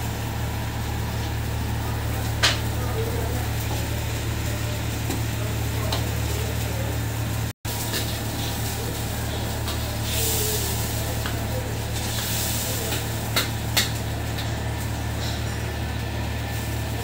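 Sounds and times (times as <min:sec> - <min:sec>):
gas burner roaring: 0:00.0 - 0:17.0.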